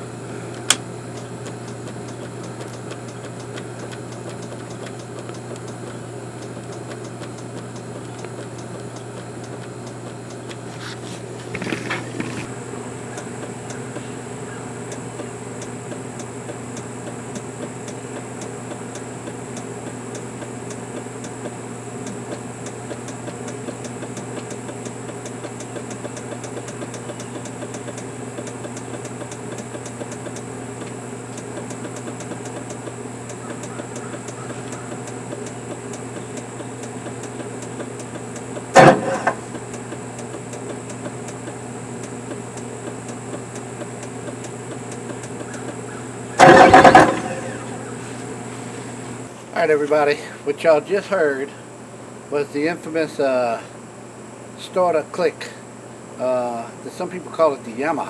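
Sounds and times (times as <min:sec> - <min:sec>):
starter clicking: 0:00.0 - 0:50.0
steady low hum: 0:00.0 - 0:58.0.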